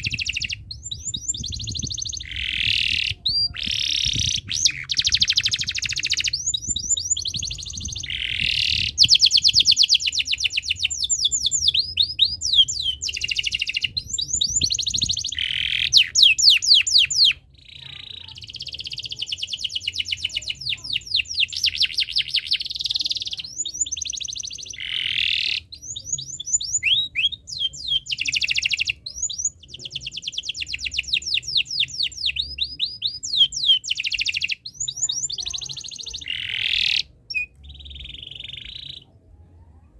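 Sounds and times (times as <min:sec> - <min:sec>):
canary singing trills: 0:00.0 - 0:39.3.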